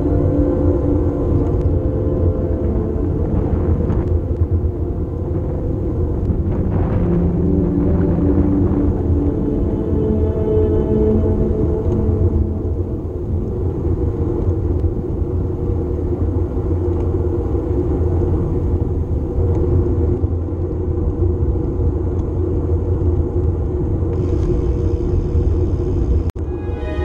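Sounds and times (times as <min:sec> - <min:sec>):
wind buffeting microphone: 0:00.0 - 0:26.4.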